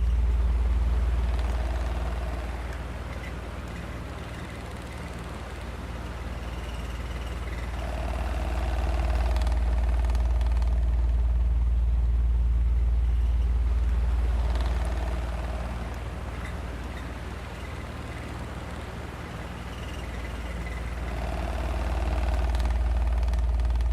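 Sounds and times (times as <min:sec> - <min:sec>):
ventilation shaft humming: 0:00.0 - 0:23.9.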